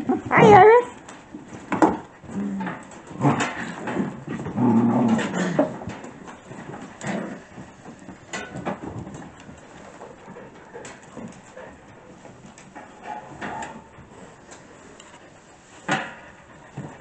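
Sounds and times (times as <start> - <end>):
puppies scuffling: 0.0 - 17.0
puppy sounds: 0.0 - 17.0.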